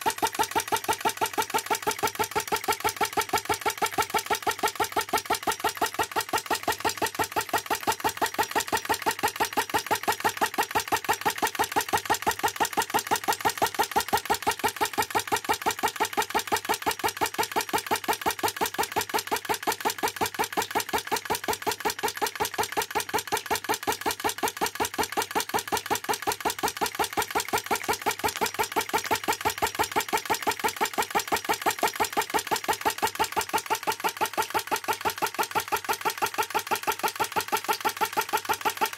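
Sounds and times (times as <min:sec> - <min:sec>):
model engine clicking steadily: 0:00.0 - 0:38.9.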